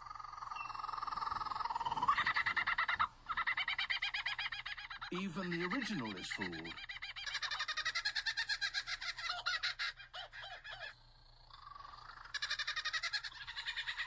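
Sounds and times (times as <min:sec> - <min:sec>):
kookaburra laughing call: 0:00.4 - 0:11.0, 0:11.8 - 0:14.0.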